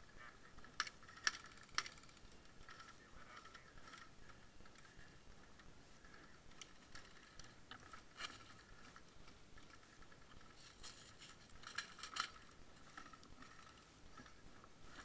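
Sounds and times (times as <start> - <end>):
rifle and gear clicking: 0.0 - 15.0.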